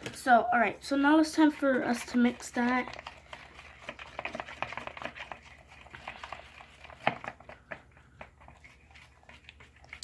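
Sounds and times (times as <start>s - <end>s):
stick stirring sticky glue: 0.0s - 10.0s.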